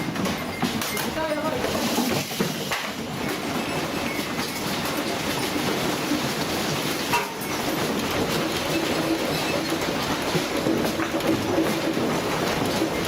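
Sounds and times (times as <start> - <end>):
building rumbling and rattling: 0.0 - 13.0.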